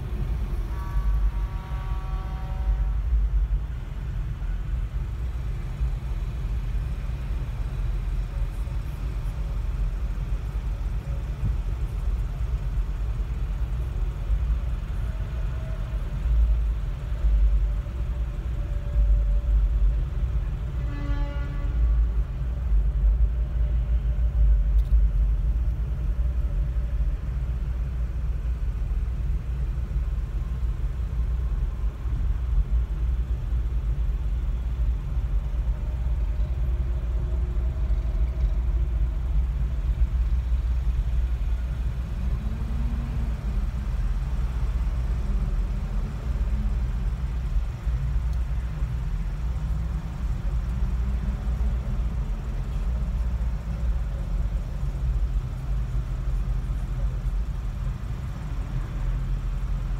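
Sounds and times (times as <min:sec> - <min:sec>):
low rumble of idling traffic: 0:00.0 - 0:59.9.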